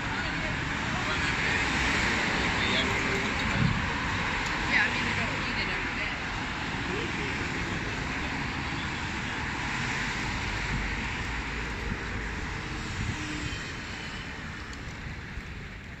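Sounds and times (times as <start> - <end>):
city street noise roar: 0.0 - 16.0.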